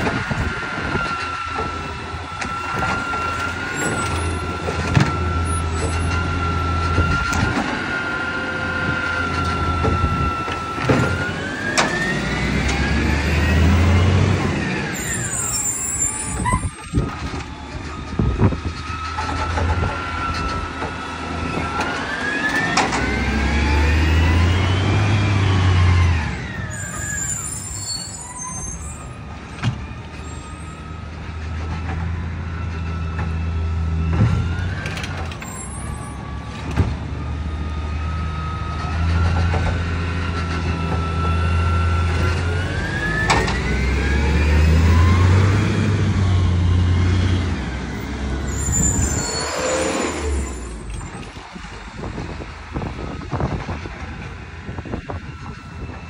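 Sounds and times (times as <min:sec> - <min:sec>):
garbage truck engine whining: 0:00.0 - 0:56.0.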